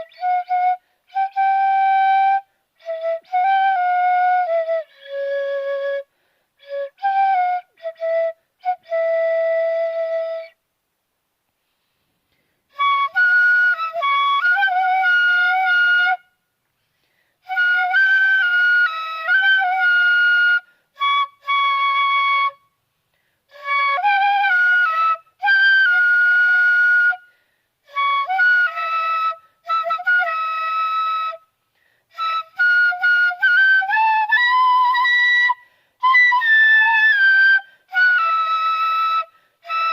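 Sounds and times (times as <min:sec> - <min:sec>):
flute played by beginner: 0:00.0 - 0:10.6, 0:12.7 - 0:16.4, 0:17.4 - 0:22.8, 0:23.5 - 0:39.9.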